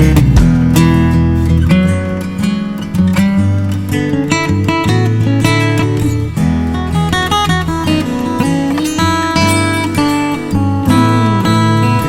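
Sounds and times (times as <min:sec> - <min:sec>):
guitar music: 0:00.0 - 0:12.0.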